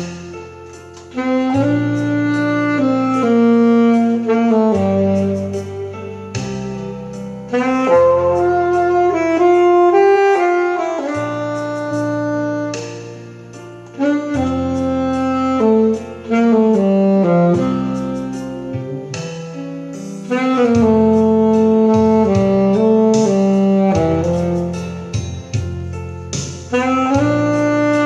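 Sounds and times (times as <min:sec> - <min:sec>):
saxophone melody: 0:00.0 - 0:28.0.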